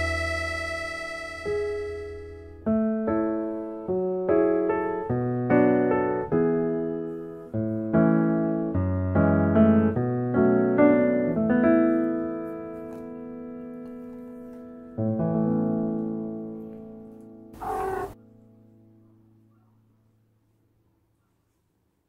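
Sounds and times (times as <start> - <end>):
piano music: 0.0 - 19.5.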